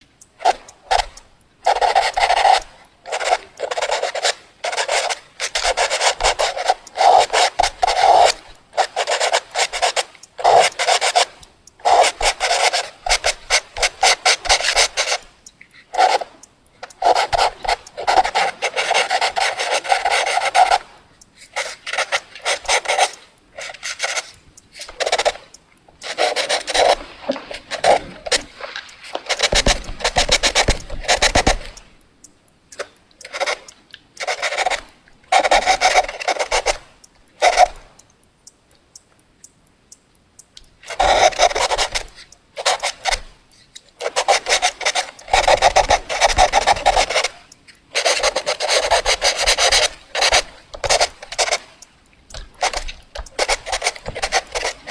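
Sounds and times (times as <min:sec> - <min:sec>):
scratchy drawing on paper: 0:00.4 - 0:20.9, 0:21.5 - 0:28.6, 0:29.2 - 0:31.9, 0:33.3 - 0:37.8, 0:40.9 - 0:43.3, 0:44.0 - 0:54.9.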